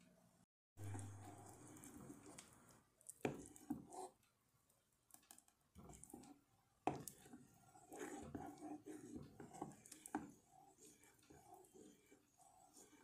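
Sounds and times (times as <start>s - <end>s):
spoon stirring thick sauce: 0.8s - 13.0s.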